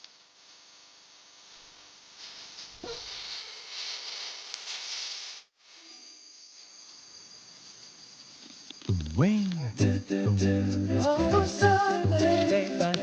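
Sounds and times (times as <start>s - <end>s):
steady hiss: 0.0s - 13.0s
high steady insect tone: 2.2s - 13.0s.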